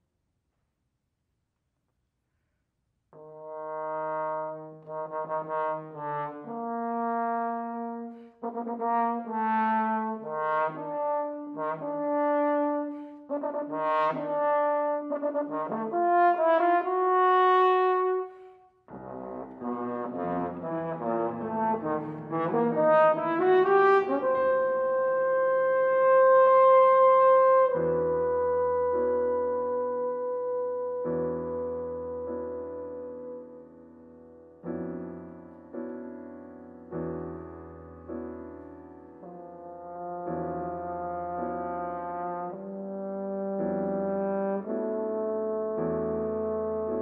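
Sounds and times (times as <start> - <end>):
french horn playing: 3.2 - 33.6, 39.2 - 47.0
grand piano: 3.2 - 47.0.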